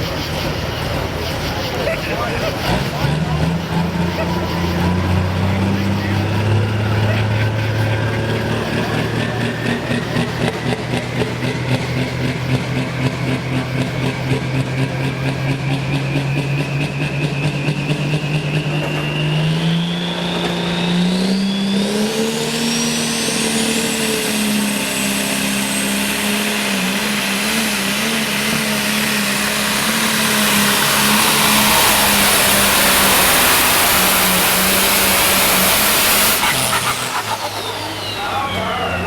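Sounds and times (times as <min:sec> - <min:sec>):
tractor engine revving: 0:00.0 - 0:39.0
turbo whine: 0:00.0 - 0:39.0.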